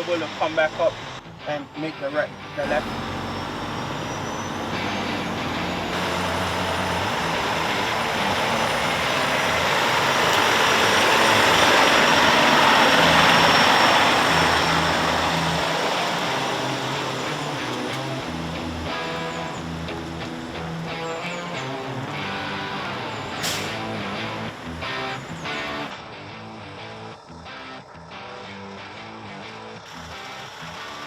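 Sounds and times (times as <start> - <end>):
heavy truck driving past: 0.0 - 26.2.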